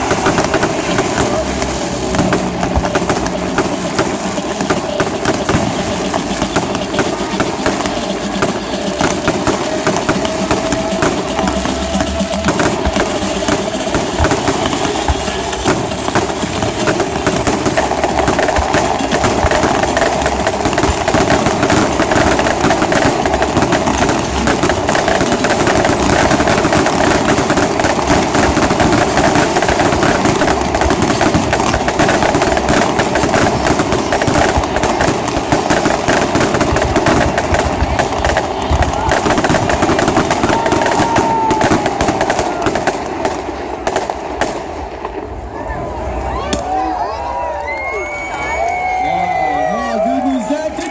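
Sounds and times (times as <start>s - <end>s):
fireworks crackling bangs: 0.0s - 50.9s.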